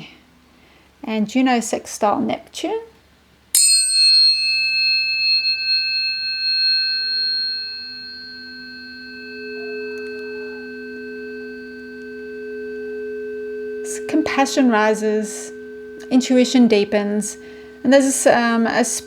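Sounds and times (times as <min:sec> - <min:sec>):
tuning forks ringing: 0:03.5 - 0:19.0.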